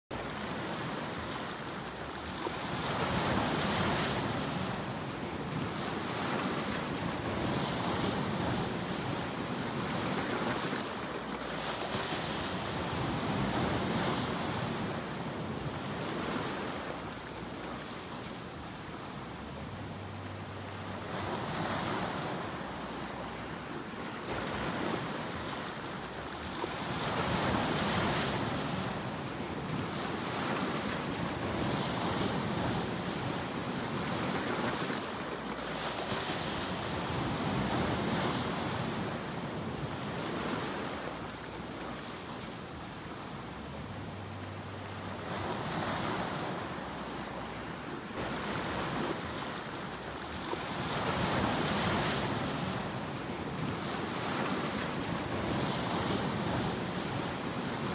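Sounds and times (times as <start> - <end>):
waves breaking on beach: 0.1 - 57.9.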